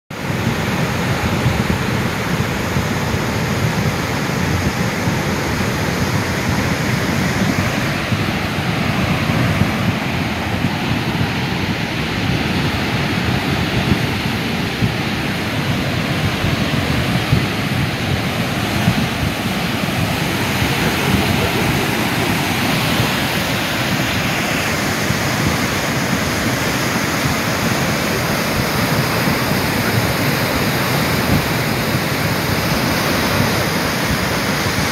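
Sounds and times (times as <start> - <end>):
flood water rushing: 0.1 - 34.9.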